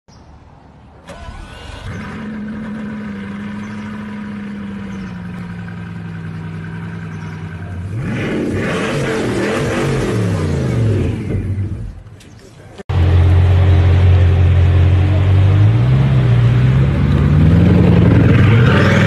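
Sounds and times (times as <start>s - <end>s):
car engine starting and idling: 1.0s - 19.0s
car engine revving: 1.1s - 12.0s, 12.9s - 19.0s.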